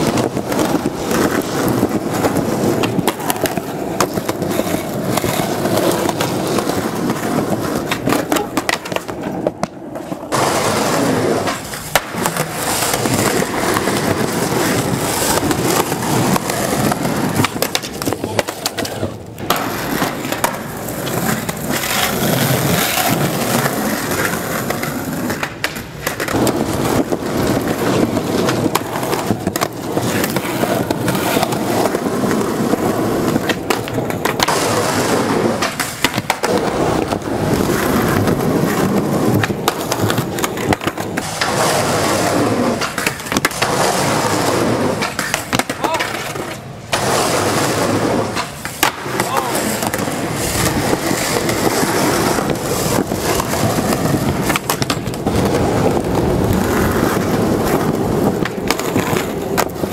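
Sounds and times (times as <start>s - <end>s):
skateboard clacks: 0.0s - 59.9s
skateboard wheels rolling on concrete: 0.0s - 59.9s.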